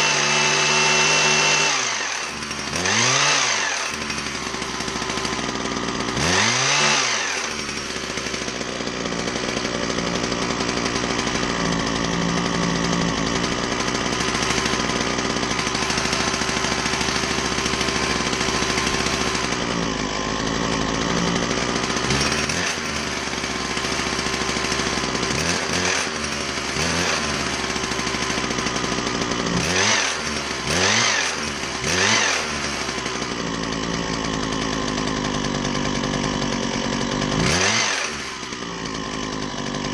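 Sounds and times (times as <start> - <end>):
hedge trimmer engine revving: 0.0 - 39.9.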